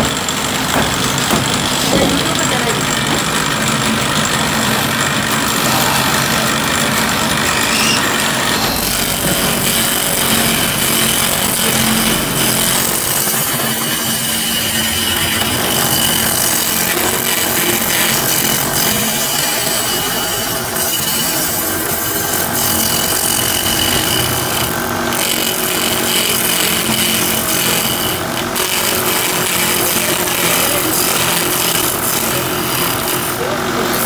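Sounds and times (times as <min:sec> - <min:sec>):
gouge cutting spinning wood: 0:00.0 - 0:34.0
lathe humming: 0:00.0 - 0:34.0.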